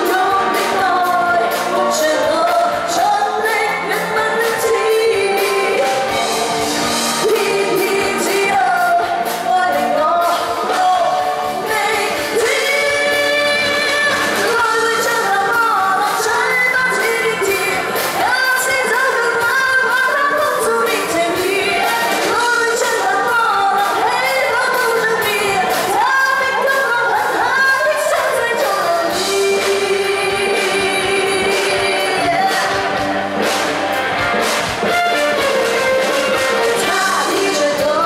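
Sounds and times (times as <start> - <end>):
woman singing into microphone: 0.0 - 34.2, 34.8 - 38.0
instrumental backing with beat: 0.0 - 38.0.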